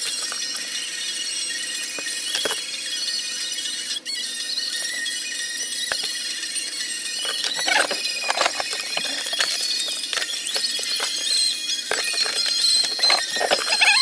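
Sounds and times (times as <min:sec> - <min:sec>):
high-pitched squeaky chirping: 0:00.0 - 0:14.0.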